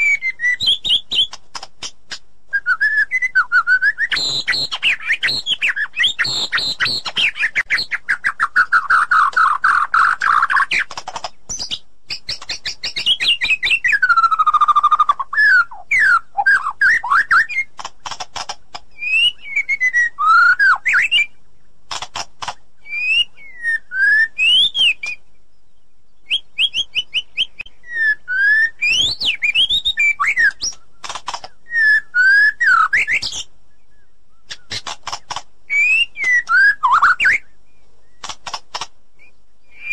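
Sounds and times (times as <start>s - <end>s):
bird singing whistled phrases: 0.0s - 1.4s, 2.5s - 10.9s, 11.5s - 17.8s, 19.0s - 21.4s, 22.8s - 25.3s, 26.2s - 31.0s, 31.6s - 34.8s, 35.7s - 38.2s, 39.2s - 39.9s.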